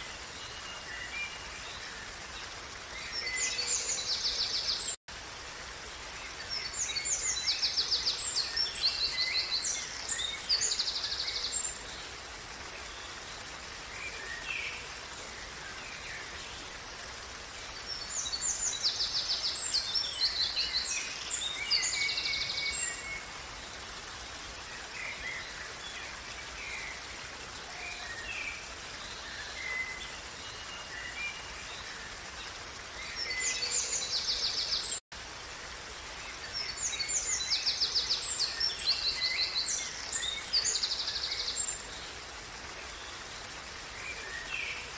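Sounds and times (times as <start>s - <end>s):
songbirds singing: 0.0s - 44.9s
stream water rushing: 0.0s - 44.9s.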